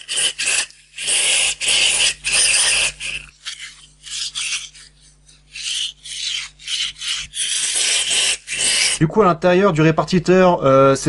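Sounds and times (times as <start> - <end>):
tool scraping metal part: 0.0 - 9.0.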